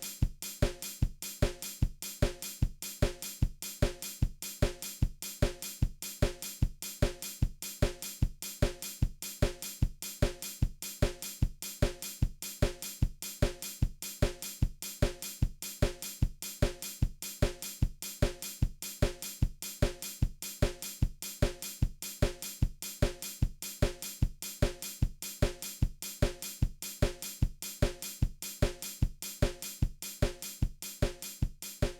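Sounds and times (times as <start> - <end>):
steady drum beat: 0.0 - 31.9.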